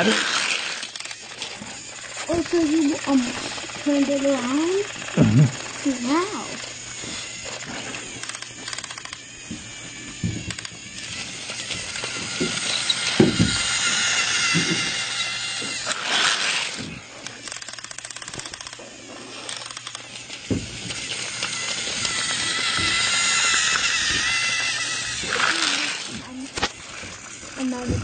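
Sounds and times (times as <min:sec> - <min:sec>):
gears and wheels clicking: 0:00.0 - 0:28.0
toy train motor whine: 0:00.0 - 0:28.0.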